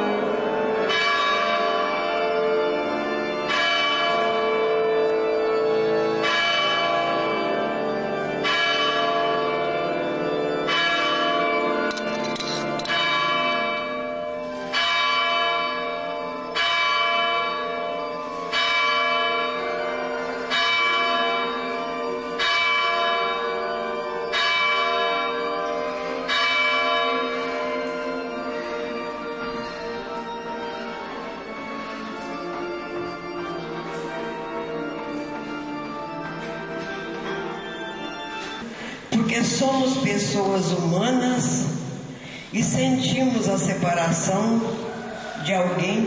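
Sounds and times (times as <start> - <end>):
church bell tolling: 0.0 - 46.0.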